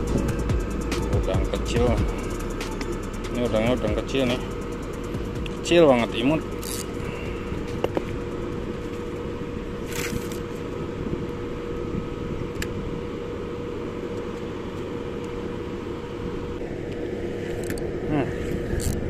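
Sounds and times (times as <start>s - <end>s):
constant machine hum: 0.0s - 19.0s.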